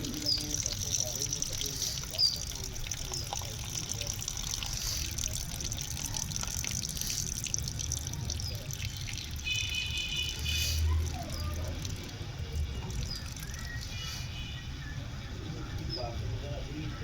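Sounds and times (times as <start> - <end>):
water running and trickling: 0.0 - 17.0.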